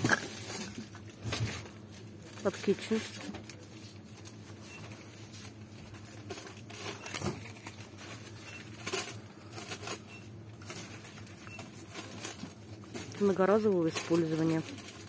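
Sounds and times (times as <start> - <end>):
shop background hum: 0.0 - 15.0.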